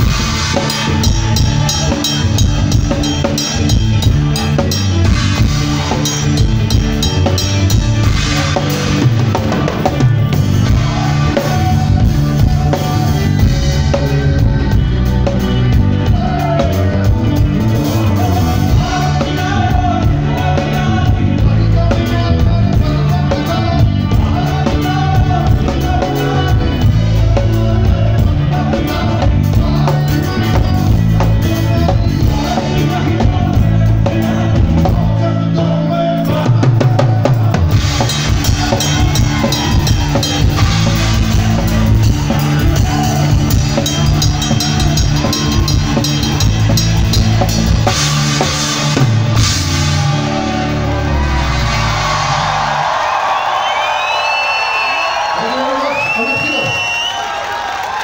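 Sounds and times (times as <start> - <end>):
drum kit with cymbals: 0.0 - 52.8
live rock band playing: 0.0 - 58.0.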